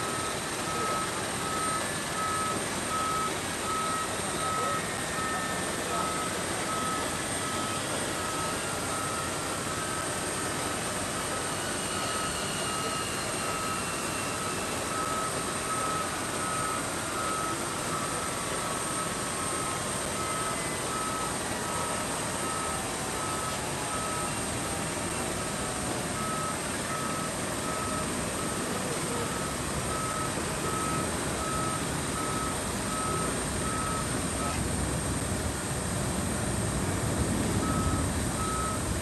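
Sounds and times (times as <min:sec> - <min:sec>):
reversing alarm beeping: 0:00.0 - 0:34.6, 0:37.5 - 0:39.0
engine noise rushing: 0:00.0 - 0:39.0.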